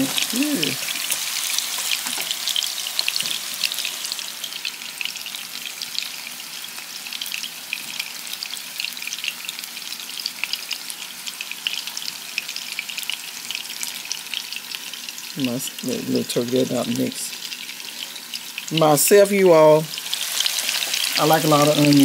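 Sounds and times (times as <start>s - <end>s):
patties frying in hot oil: 0.0s - 22.0s.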